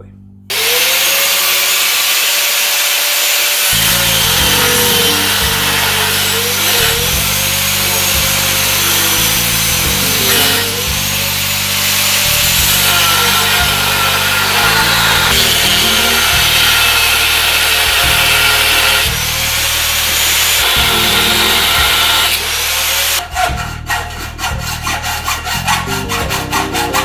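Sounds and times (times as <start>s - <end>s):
angle grinder cutting steel: 0.5s - 27.0s.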